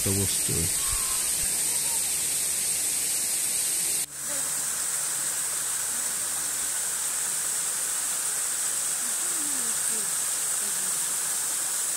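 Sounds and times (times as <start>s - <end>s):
waterfall and stream rushing: 0.0s - 11.9s.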